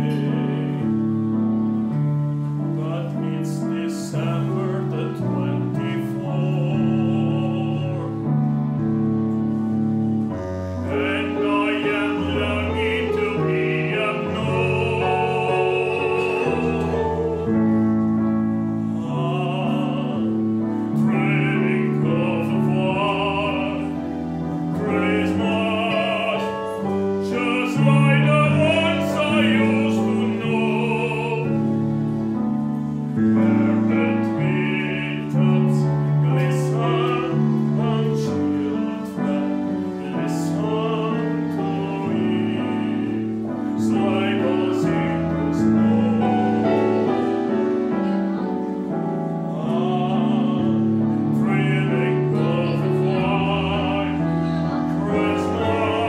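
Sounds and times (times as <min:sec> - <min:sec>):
man singing operatically: 0:00.0 - 0:01.7, 0:02.5 - 0:08.7, 0:10.8 - 0:32.2, 0:32.9 - 0:47.2, 0:49.3 - 0:56.0
digital piano chords: 0:00.0 - 0:56.0.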